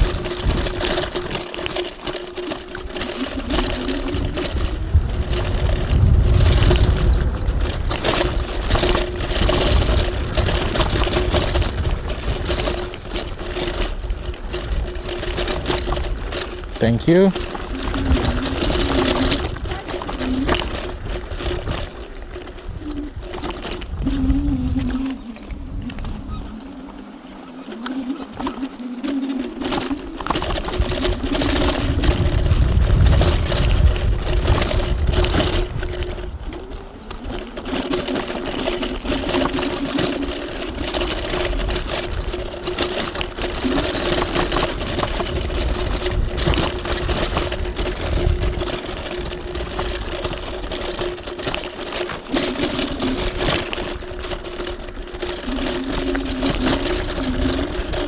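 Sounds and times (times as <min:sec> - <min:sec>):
electric scooter motor whining: 0:00.0 - 0:58.0
low rumble of wind: 0:00.0 - 0:58.0.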